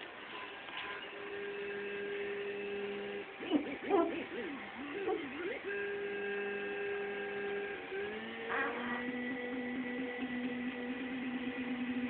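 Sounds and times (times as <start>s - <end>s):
held pitched tones sliding up: 1.8s - 12.0s.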